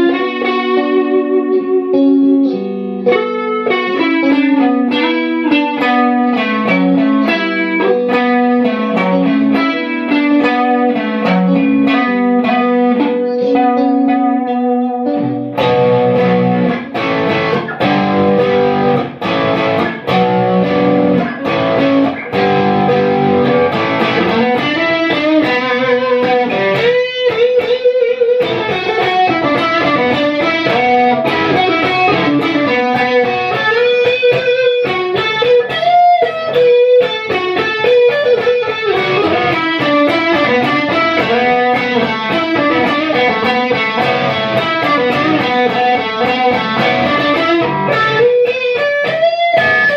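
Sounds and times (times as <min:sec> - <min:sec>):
electric guitar chords: 0:00.0 - 0:49.9
electric guitar melody: 0:00.0 - 0:49.9.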